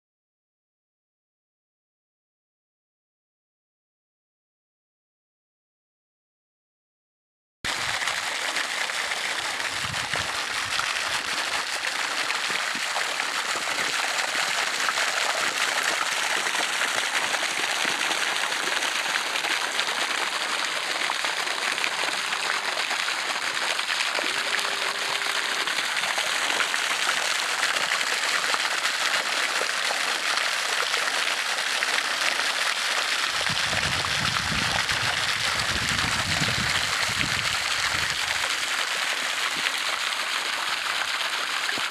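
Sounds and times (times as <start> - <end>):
water spray pattering: 7.7 - 41.9.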